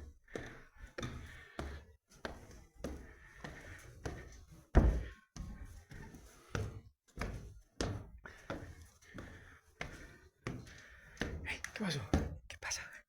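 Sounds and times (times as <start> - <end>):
footsteps dull thuds: 0.0 - 12.5.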